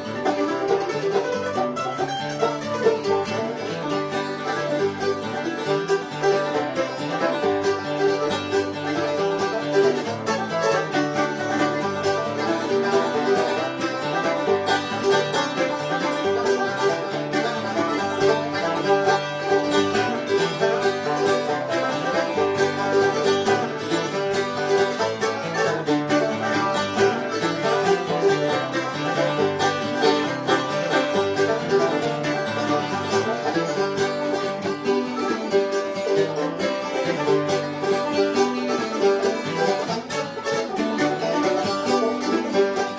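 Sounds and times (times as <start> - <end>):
banjo playing fast rolls: 0.0 - 42.9
guitar accompaniment: 0.0 - 42.9.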